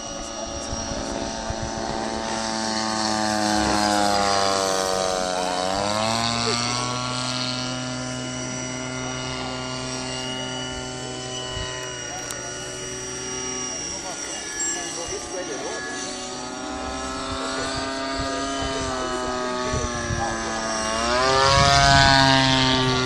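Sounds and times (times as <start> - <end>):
model airplane engine: 0.0 - 23.0.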